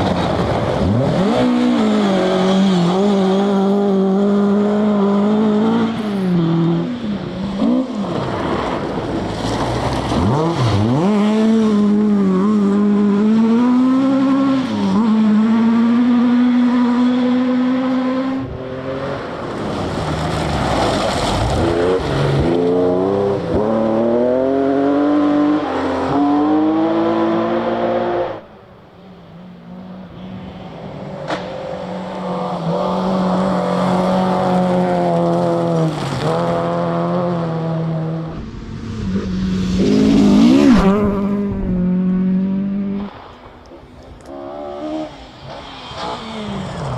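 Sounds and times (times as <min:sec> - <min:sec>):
rally car engines revving high: 0:00.0 - 0:43.2, 0:43.8 - 0:46.9.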